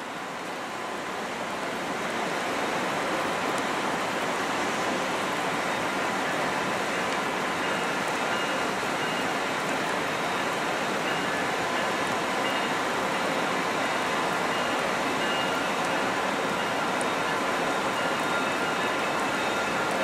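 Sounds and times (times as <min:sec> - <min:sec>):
distant diesel locomotive: 0:00.1 - 0:20.0.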